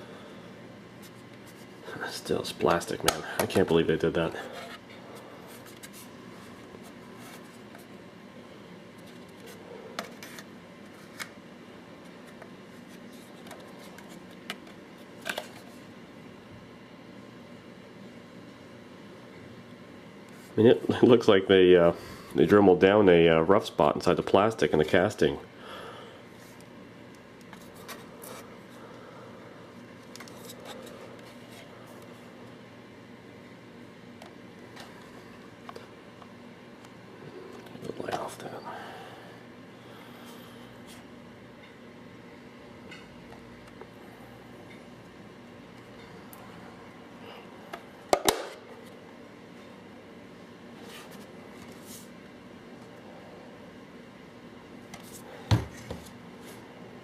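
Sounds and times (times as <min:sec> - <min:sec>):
room hum: 0:00.0 - 0:57.0.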